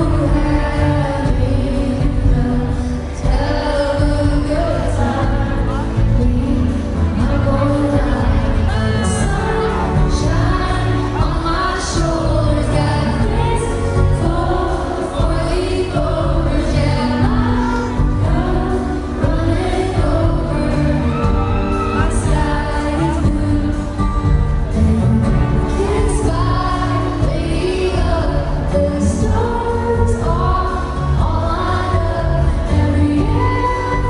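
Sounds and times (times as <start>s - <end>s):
live country band: 0.0s - 34.0s
woman singing: 0.0s - 34.0s.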